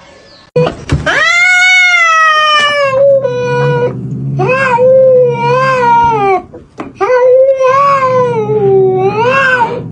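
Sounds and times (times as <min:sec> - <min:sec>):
cat yowling: 0:01.1 - 0:09.9.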